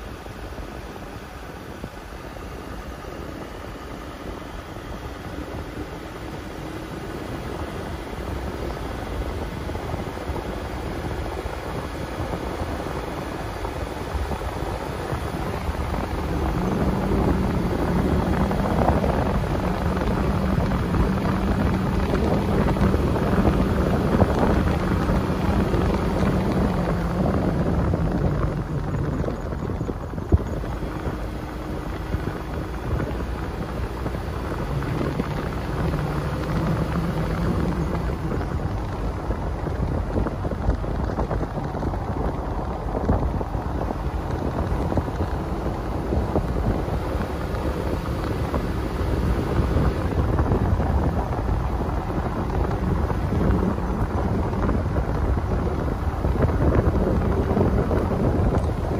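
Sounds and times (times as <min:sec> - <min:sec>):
car tyre and engine rumble: 0:00.0 - 0:58.9
low engine drone: 0:00.0 - 0:58.9.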